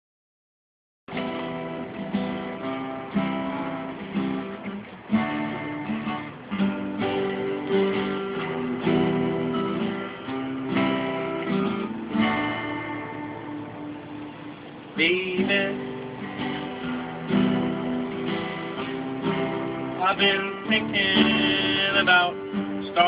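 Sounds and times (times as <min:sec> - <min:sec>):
acoustic guitar strumming chords: 0:01.1 - 0:23.0.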